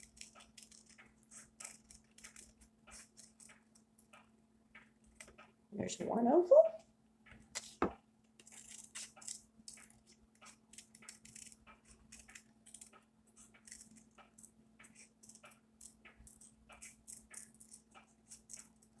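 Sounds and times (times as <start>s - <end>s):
scissors snipping paper: 0.0s - 3.8s, 7.5s - 19.0s.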